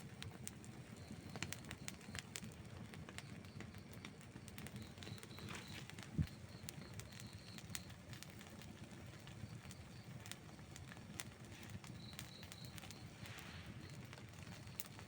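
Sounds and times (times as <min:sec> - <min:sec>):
burning wood crackling and popping: 0:00.0 - 0:15.0
campfire flames rumbling: 0:00.0 - 0:15.0
faint high-pitched chirps: 0:00.8 - 0:02.3, 0:03.2 - 0:08.2, 0:09.4 - 0:15.0.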